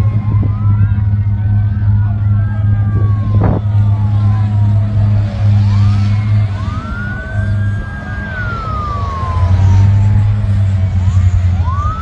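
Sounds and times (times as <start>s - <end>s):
emergency sirens wailing: 0.0s - 12.0s
steady low rumble: 0.0s - 12.0s.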